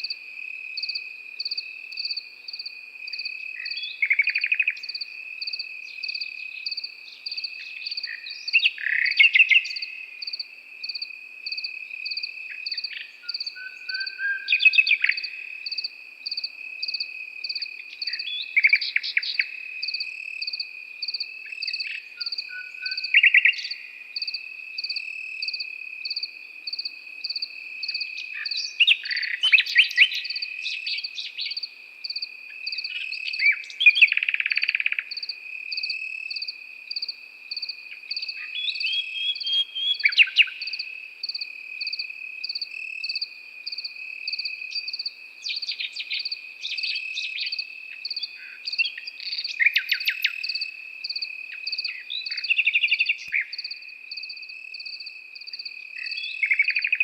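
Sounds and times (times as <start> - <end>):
crickets chirping in pulses: 0.0 - 57.0
crickets trilling: 0.0 - 57.0
nightingale singing: 0.0 - 57.0.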